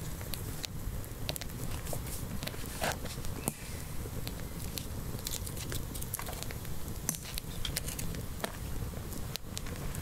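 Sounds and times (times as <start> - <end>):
campfire crackling: 0.0 - 10.0
fire snaps and pops: 0.0 - 10.0.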